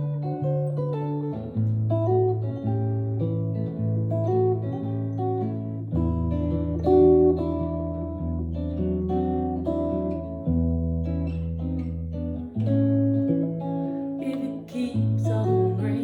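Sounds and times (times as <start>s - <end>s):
electric guitar blues riff: 0.0s - 16.0s.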